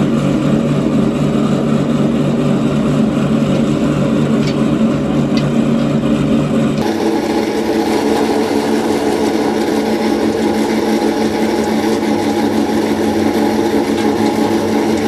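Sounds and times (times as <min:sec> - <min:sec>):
workshop machine humming: 0:00.0 - 0:15.0.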